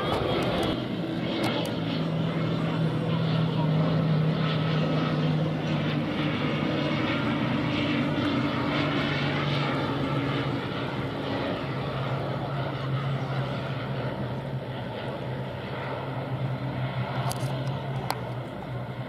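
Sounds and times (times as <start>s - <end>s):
pulsing propeller noise: 0.0s - 19.0s
turboprop airliner droning: 0.0s - 19.0s.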